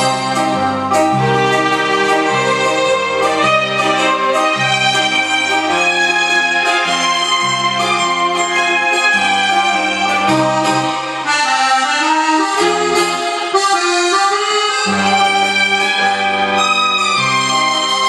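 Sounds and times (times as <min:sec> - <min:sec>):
instrumental karaoke backing track: 0:00.0 - 0:18.0.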